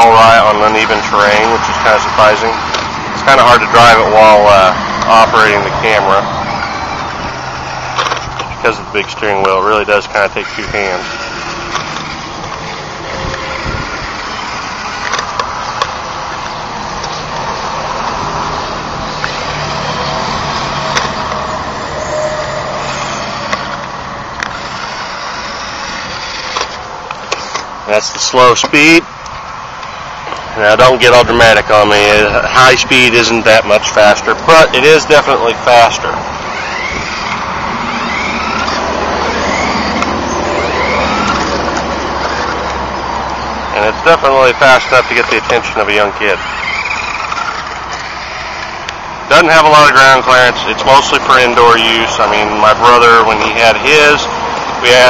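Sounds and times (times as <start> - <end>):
toy car motor whirring: 0.0 - 29.0, 29.8 - 55.0
wheels rolling on wooden boards: 0.0 - 55.0.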